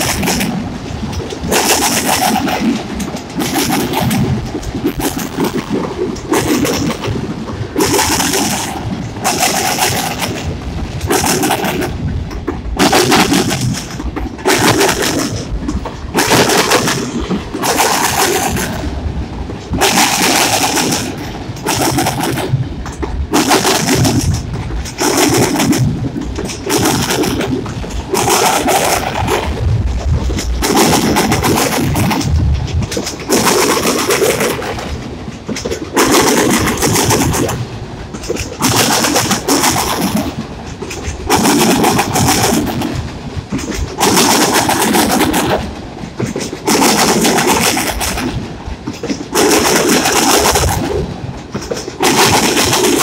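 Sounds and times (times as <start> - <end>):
freight train wheels clattering: 0.0 - 53.0.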